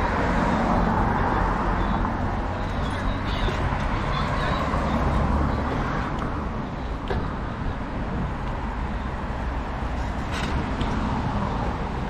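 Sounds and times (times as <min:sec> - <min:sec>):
passing cars rumbling: 0:00.0 - 0:12.0.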